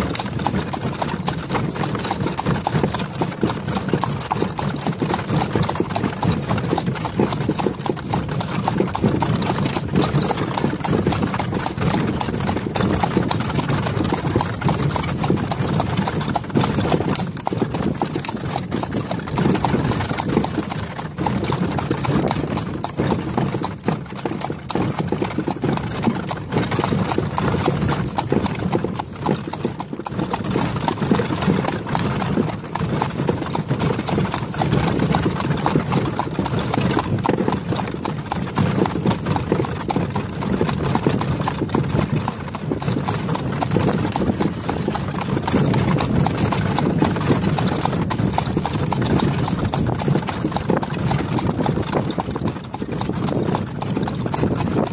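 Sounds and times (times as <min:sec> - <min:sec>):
hooves clip-clopping on asphalt: 0:00.0 - 0:54.9.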